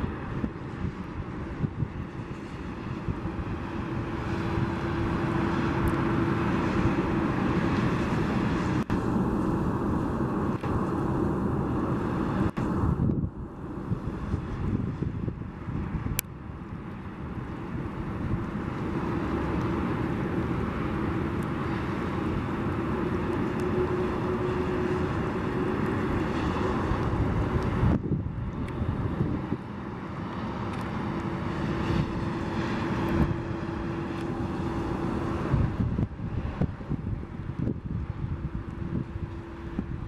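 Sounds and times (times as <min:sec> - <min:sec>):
jet engines idling: 0:00.0 - 0:40.0
wind on microphone: 0:00.0 - 0:40.0.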